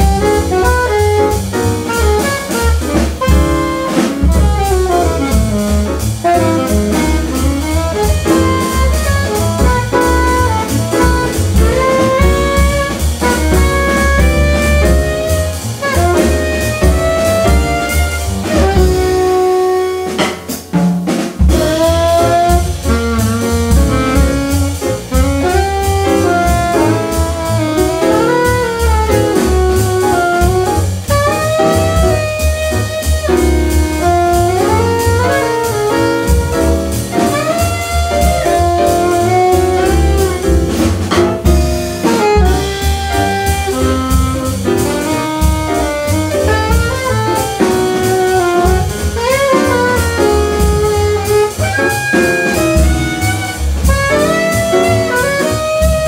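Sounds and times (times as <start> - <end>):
alto saxophone melody: 0.0 - 20.8, 21.4 - 56.0
double bass: 0.0 - 56.0
drum kit with cymbals: 0.0 - 56.0
piano: 0.0 - 56.0.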